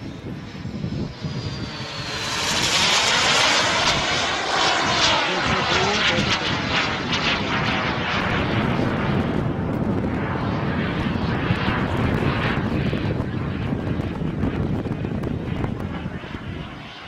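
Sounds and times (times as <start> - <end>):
jet engine flying past: 0.0 - 17.0.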